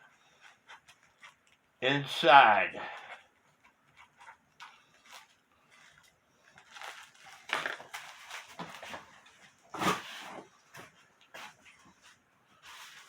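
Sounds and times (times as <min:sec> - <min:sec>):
cardboard and packing rustling: 0:00.0 - 0:01.8, 0:03.2 - 0:13.0.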